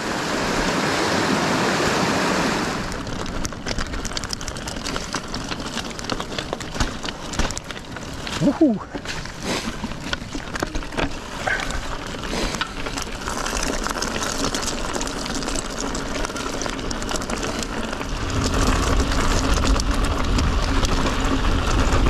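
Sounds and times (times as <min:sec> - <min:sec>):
tyres rolling on dirt and stones: 0:02.6 - 0:22.0
bike rattling: 0:02.8 - 0:22.0.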